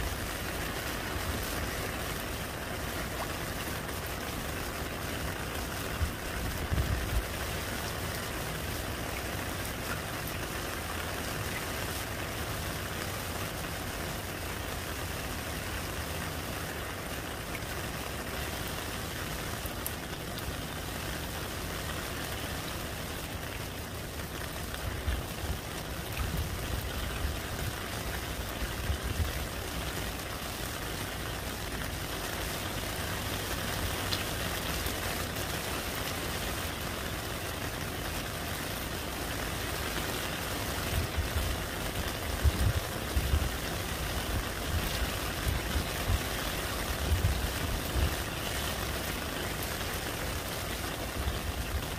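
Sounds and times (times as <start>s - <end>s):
heavy rain splashing into puddle: 0.0s - 51.9s.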